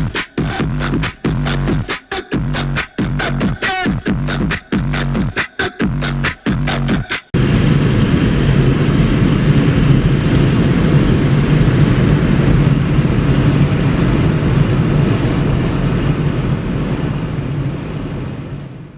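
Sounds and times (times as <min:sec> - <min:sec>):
distorted subwoofer bass: 0:00.0 - 0:17.0.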